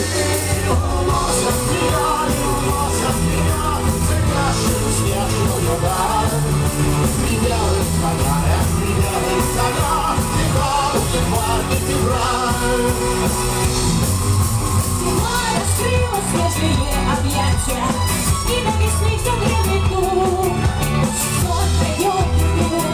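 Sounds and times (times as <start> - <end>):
bass: 0.0 - 22.9
live rock band playing: 0.0 - 22.9
steady drum beat: 0.0 - 22.9.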